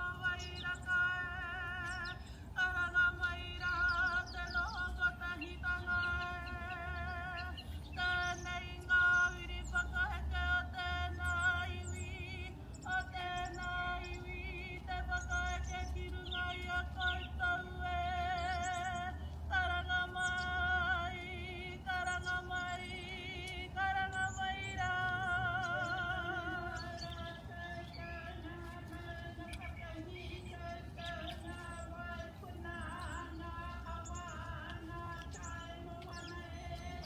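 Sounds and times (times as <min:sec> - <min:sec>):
birds chirping faintly: 0:00.0 - 0:37.0
woman singing ceremonial call: 0:00.0 - 0:37.0.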